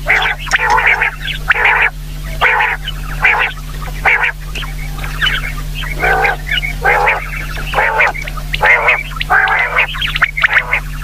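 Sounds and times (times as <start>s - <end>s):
quail calling: 0.0s - 11.0s.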